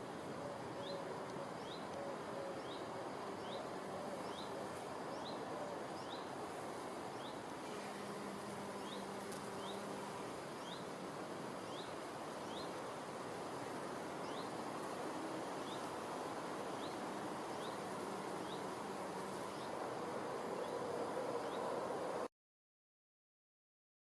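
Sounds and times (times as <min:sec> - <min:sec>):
steady hiss: 0:00.0 - 0:22.3.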